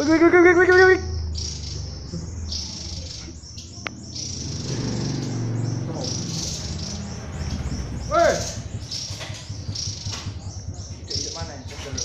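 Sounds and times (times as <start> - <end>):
low rumble: 1.0 - 12.0.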